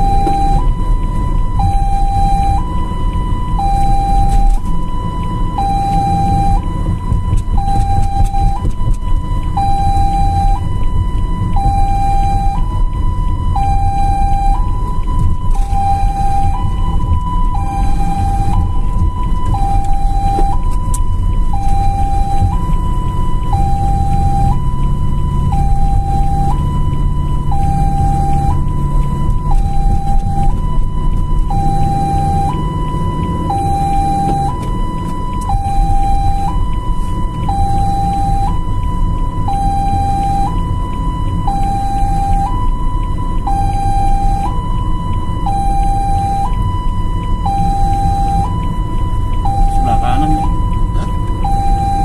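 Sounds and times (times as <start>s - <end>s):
two-tone ambulance siren: 0.0s - 52.0s
vehicle engine and road noise: 0.0s - 52.0s.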